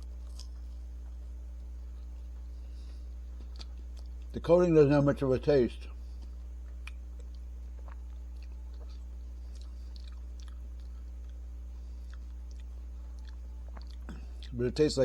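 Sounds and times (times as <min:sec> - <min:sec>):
chewing ice cream bar crunches: 0:00.0 - 0:04.4, 0:05.8 - 0:15.0
low electrical hum: 0:00.0 - 0:15.0.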